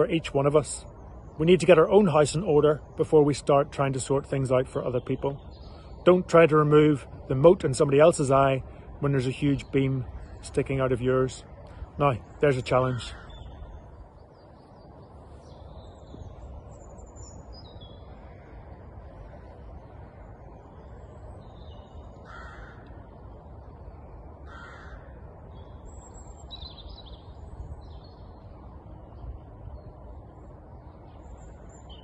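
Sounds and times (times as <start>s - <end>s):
harsh bird calls: 0.0s - 32.0s
small birds chirping: 0.0s - 32.0s.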